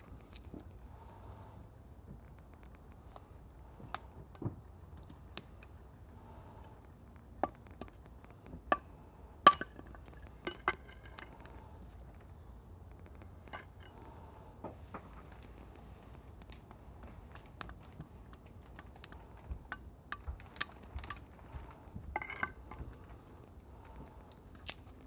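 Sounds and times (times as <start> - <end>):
campfire crackling: 4.8 - 25.0.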